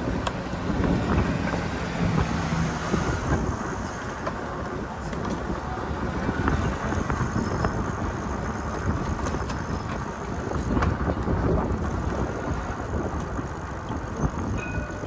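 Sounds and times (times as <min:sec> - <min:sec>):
bicycle rolling noise: 0:00.0 - 0:15.0
wind rumble: 0:00.0 - 0:15.0.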